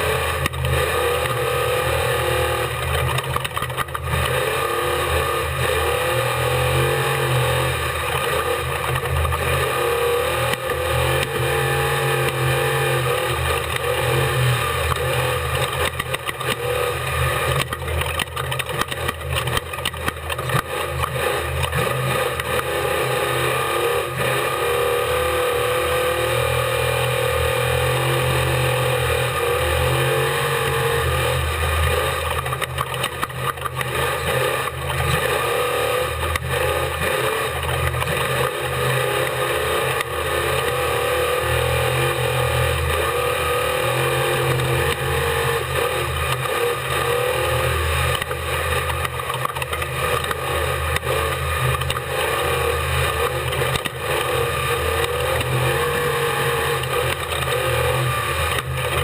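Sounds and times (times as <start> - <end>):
race vehicle engine revving: 0.0 - 59.0.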